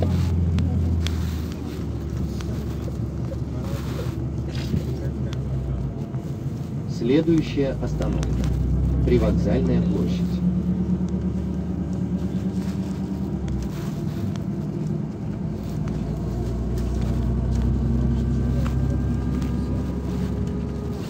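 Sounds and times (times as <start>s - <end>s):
bus engine hum: 0.0s - 21.0s
low road rumble: 0.0s - 21.0s.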